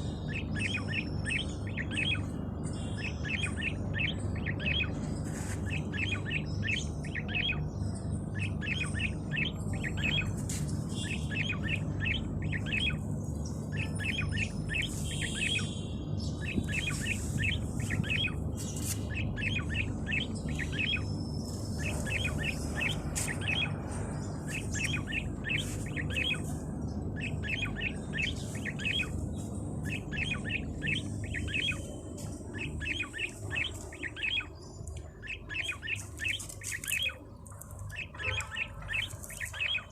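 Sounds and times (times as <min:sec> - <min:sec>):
songbirds chirping: 0:00.0 - 0:39.9
steady low hum: 0:00.0 - 0:39.9
thin bird calls: 0:00.0 - 0:39.9.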